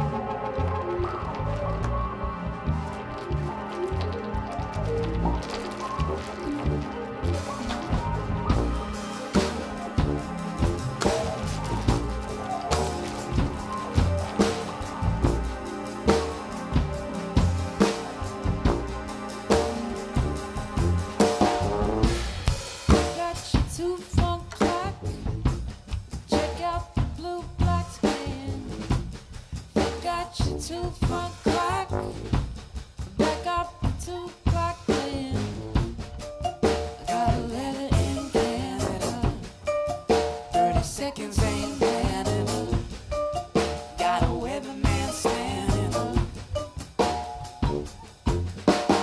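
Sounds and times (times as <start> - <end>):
drum kit beat: 0.0 - 49.0
live band playing: 0.0 - 49.0.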